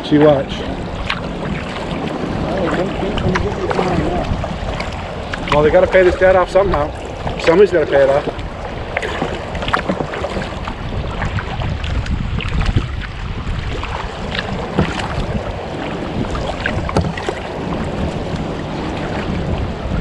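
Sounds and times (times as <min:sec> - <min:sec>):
water lapping at hull: 0:00.0 - 0:20.0
wind rumbling on microphone: 0:00.0 - 0:20.0
small splashes and drips: 0:00.2 - 0:17.5.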